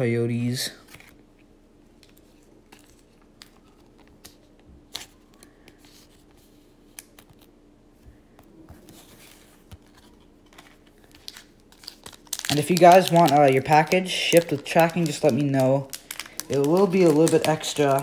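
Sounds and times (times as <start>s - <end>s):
trading cards rustling and clicking: 2.0s - 7.5s, 8.4s - 18.0s.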